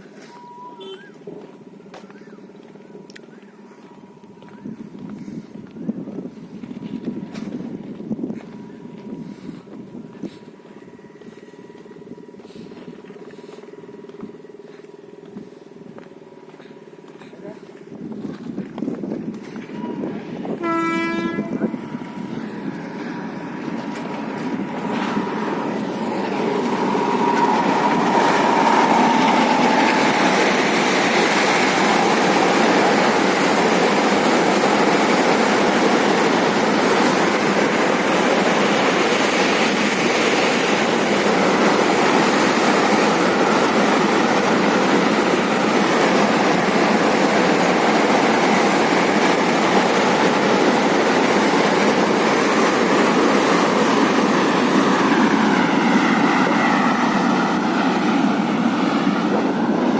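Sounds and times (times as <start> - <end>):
train rumble and wagon clatter: 0.0 - 59.9.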